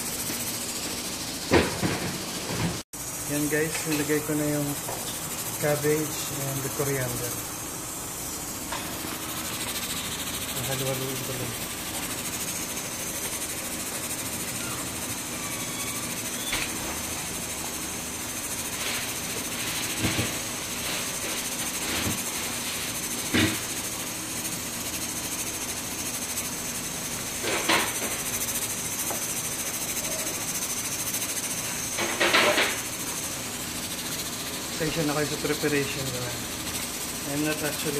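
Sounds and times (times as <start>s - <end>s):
vegetables hissing in hot pan: 0.0s - 37.9s.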